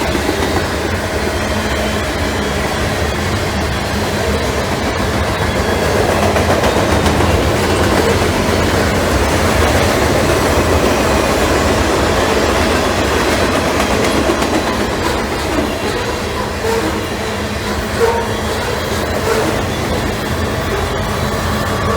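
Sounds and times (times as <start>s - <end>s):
clickety-clack over rail joints: 0.0s - 21.9s
train wheels rumbling on rails: 0.0s - 21.9s.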